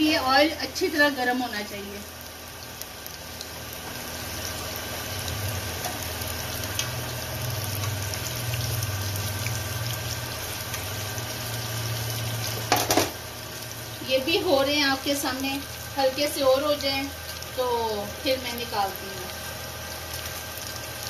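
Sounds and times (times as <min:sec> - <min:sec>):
deep-frying sizzle and crackles: 0:00.0 - 0:21.0
low steady hum: 0:00.0 - 0:21.0.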